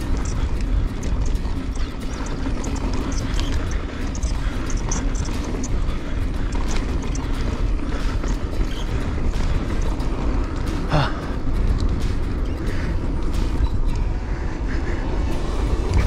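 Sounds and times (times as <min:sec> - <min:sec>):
bike rattling and clicking: 0:00.0 - 0:16.0
tyres on dirt: 0:00.0 - 0:16.0
wind rumble on microphone: 0:00.0 - 0:16.0.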